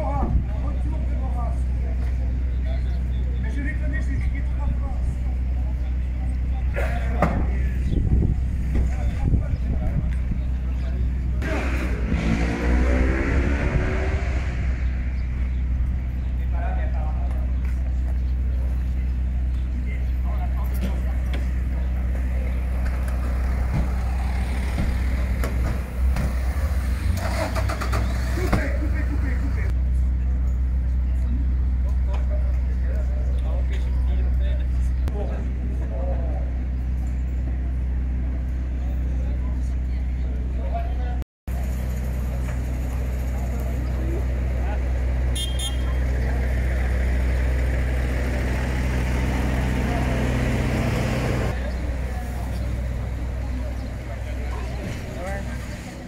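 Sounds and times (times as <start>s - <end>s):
vehicle engine idling: 0.0s - 12.4s, 13.6s - 56.0s
faint voices: 0.0s - 13.3s, 14.1s - 56.0s.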